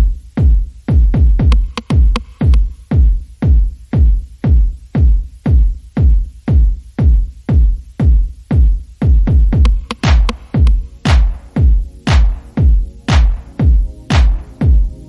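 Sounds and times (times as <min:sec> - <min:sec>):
electronic dance music: 0:00.0 - 0:15.0
heavy kick drum beat: 0:00.0 - 0:15.0.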